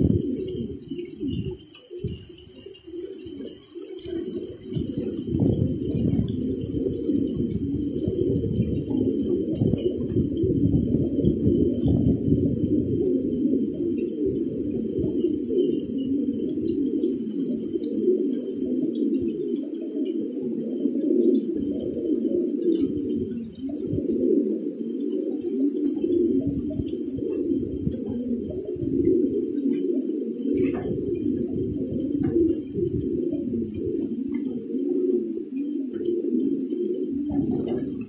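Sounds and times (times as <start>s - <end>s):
pigeons cooing: 0.0s - 38.0s.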